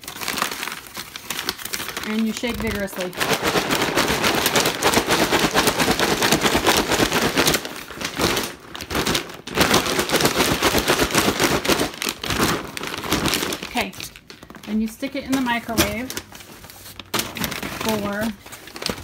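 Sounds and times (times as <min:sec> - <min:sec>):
paper bag crinkling: 0:00.0 - 0:19.0
popcorn rattling: 0:00.0 - 0:19.0.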